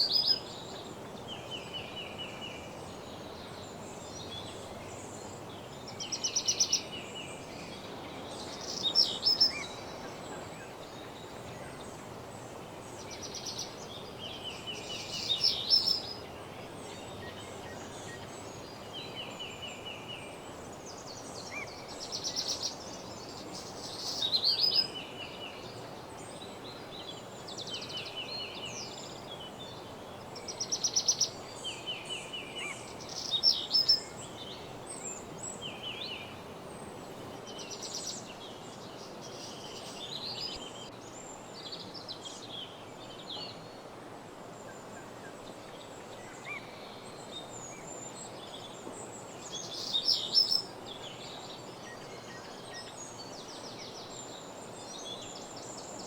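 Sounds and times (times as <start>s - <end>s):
soft background hiss: 0.0s - 56.0s
songbirds singing and trilling: 0.0s - 56.0s.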